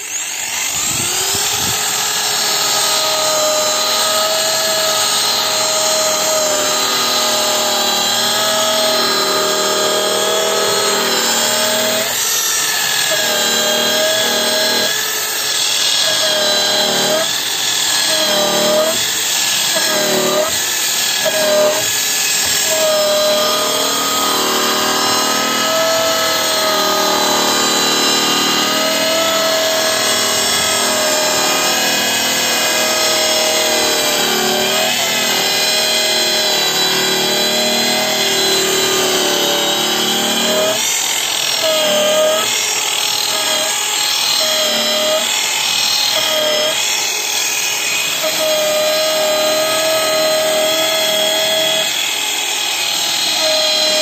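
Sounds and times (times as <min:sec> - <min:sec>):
angle grinder sanding wood: 0:00.0 - 0:54.0.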